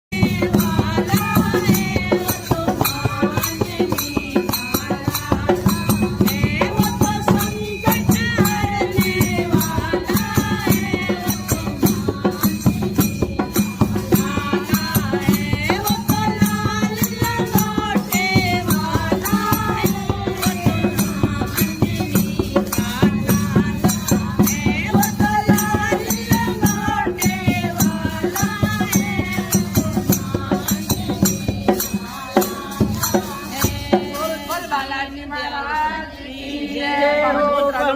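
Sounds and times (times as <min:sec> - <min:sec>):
rhythmic hand percussion: 0:00.1 - 0:37.9
devotional singing: 0:00.2 - 0:37.9.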